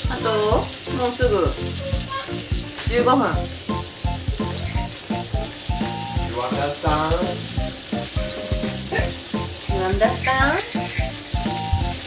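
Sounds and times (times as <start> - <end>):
background music with a beat: 0.0 - 12.0
meat sizzling in oil: 0.0 - 12.0.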